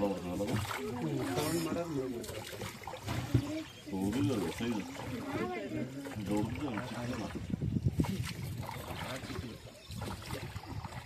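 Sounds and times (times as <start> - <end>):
boat ride background noise: 0.0 - 11.0.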